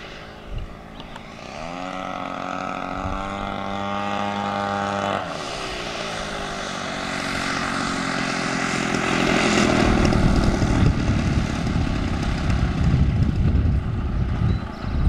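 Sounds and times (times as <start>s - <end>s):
model airplane engine droning: 0.0s - 15.0s
plane rolling on runway rumble: 0.0s - 15.0s.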